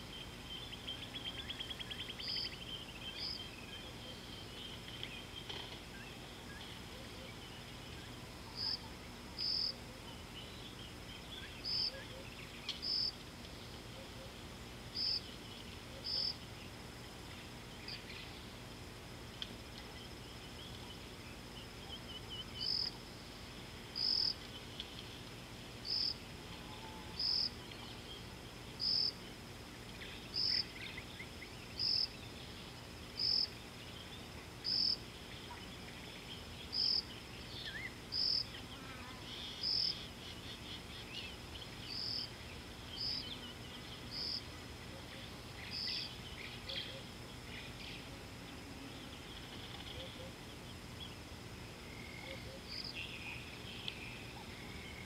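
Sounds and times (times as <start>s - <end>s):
cricket chirping: 0.0s - 55.0s
low steady hum: 0.0s - 55.0s.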